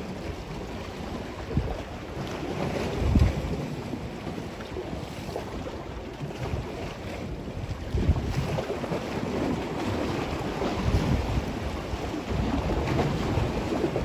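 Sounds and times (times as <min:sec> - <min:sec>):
choppy lake waves: 0:00.0 - 0:14.0
wind buffeting microphone: 0:00.0 - 0:14.0.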